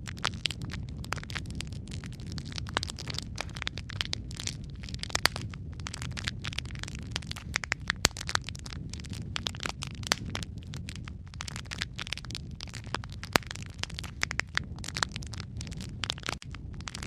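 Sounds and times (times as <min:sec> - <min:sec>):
low rumble of flame: 0:00.0 - 0:17.0
wood fire snaps and pops: 0:00.0 - 0:17.0.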